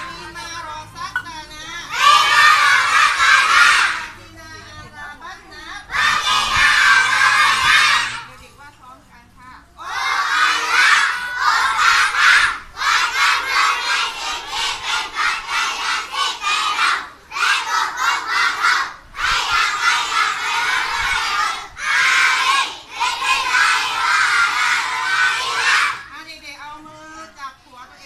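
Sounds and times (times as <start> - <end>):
children reciting in unison: 0.0 - 8.3, 9.8 - 26.1.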